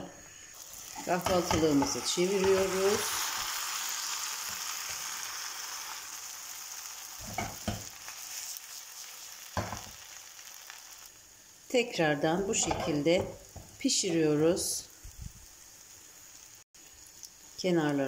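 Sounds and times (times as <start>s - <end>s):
omelette sizzling in oil: 0.1s - 18.0s.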